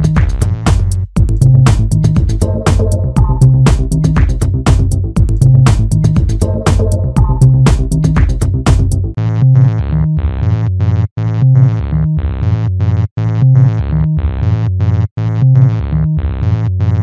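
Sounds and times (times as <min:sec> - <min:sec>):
electronic music with synthesizer chords: 0:00.0 - 0:17.0.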